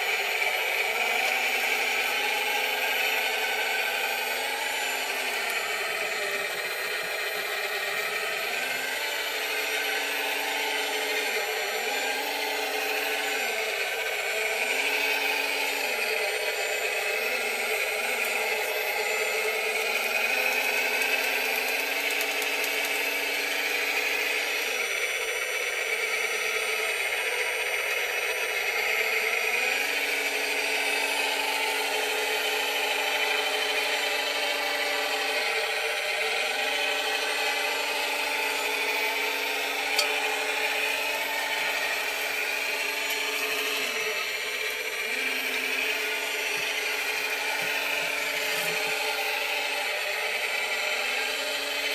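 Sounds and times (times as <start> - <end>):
model loader motors whirring: 0.0 - 51.9.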